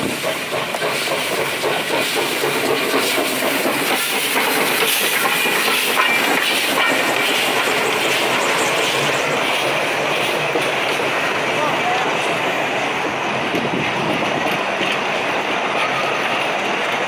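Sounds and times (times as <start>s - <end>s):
steam hissing: 0.0s - 17.0s
steam locomotive running past: 0.0s - 17.0s
wheels clattering on rails: 0.0s - 17.0s.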